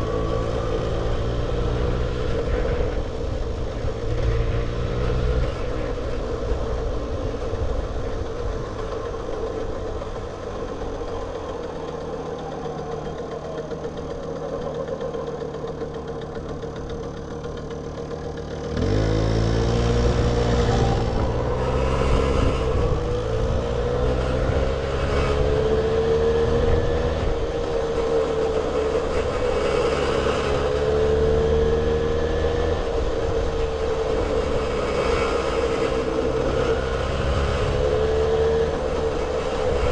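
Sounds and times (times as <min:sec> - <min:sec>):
moped two-stroke engine: 0:00.0 - 0:39.9.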